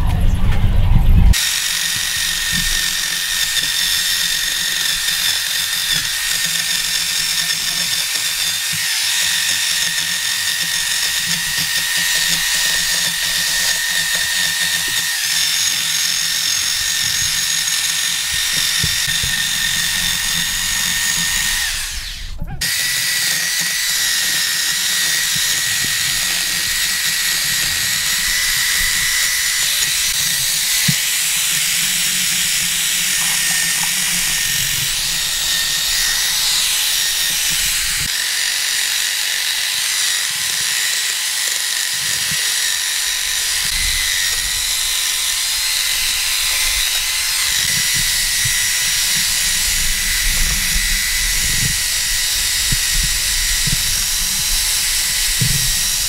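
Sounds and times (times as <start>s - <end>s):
electric drill motor whine: 0.0s - 56.0s
sanding disc rasping on wood: 1.3s - 56.0s.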